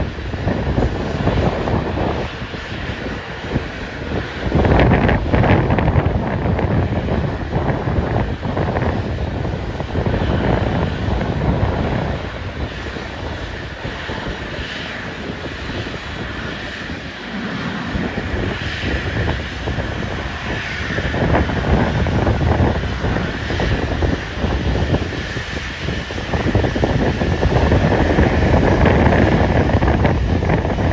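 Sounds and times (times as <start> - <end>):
aircraft engine noise: 0.0 - 30.9
wind buffeting microphone: 0.0 - 30.9.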